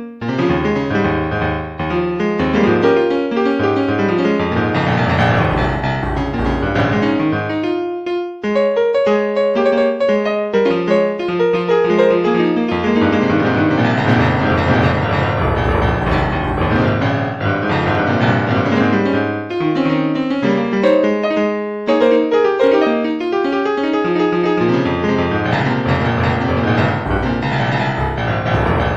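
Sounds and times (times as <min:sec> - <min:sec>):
piano music: 0:00.5 - 0:08.0, 0:08.6 - 0:19.6, 0:23.8 - 0:28.9.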